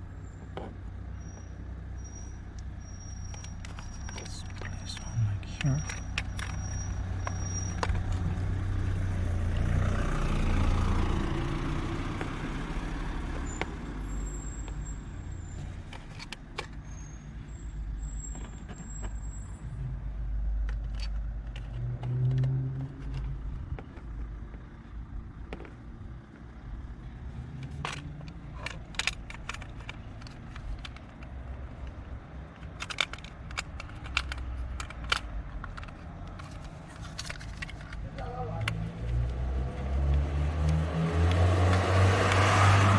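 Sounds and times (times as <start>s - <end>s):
road vehicles rumbling by: 0.0s - 42.9s.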